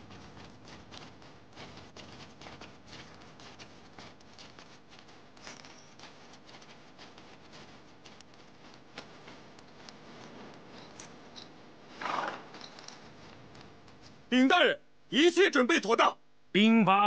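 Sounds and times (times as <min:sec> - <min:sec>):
footsteps on stone paving: 0:00.0 - 0:14.3.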